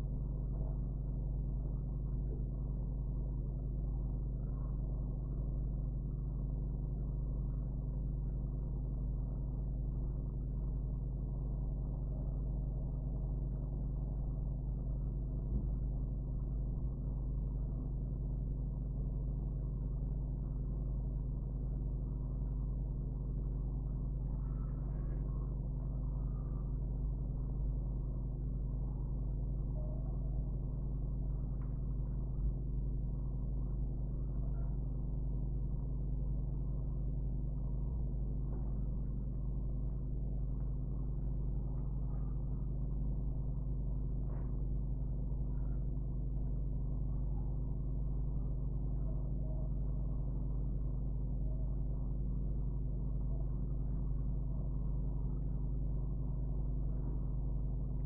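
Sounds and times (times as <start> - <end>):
constant rumble: 0.0 - 58.0
low background hum: 0.0 - 58.0.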